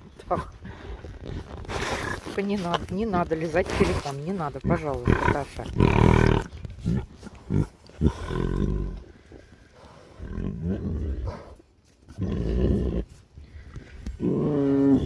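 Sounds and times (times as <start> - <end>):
tigers growling: 0.0 - 15.0.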